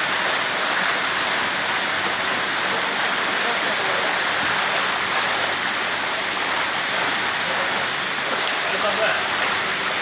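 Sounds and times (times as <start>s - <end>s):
fish splashing in water: 0.0s - 10.0s.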